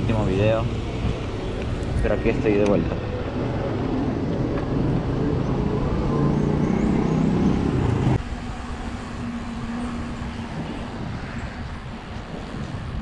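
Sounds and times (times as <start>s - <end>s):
vehicle engine drone: 0.0s - 13.0s
wind and road noise: 0.0s - 13.0s.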